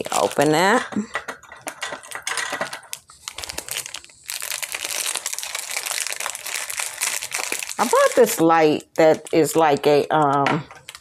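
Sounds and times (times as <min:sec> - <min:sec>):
paper and plastic packaging crinkling: 0:00.0 - 0:11.0.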